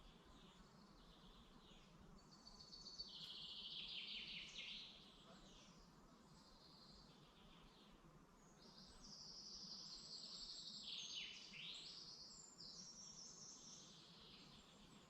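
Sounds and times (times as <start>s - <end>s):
songbirds trilling: 0.0s - 15.0s.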